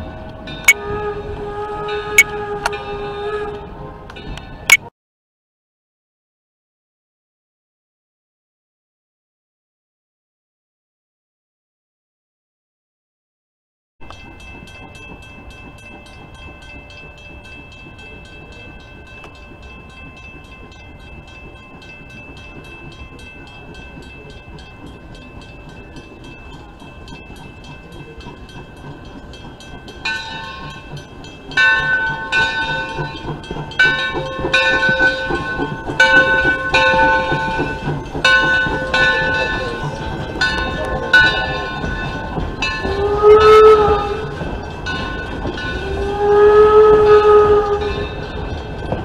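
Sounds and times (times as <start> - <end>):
steam locomotive bell ringing: 0.0 - 4.9, 14.0 - 49.0.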